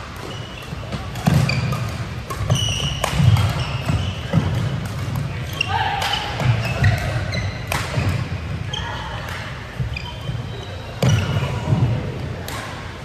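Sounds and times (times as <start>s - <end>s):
shoes squeaking on court floor: 0.0s - 12.1s
rackets hitting shuttlecock: 0.0s - 13.0s.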